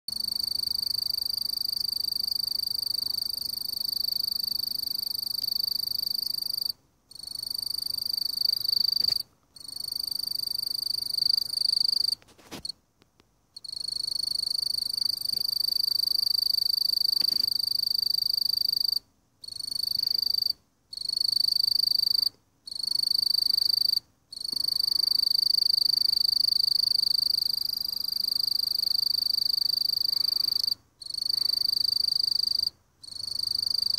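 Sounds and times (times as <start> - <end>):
bush cricket high-pitched buzz: 0.1 - 12.7, 13.6 - 33.9.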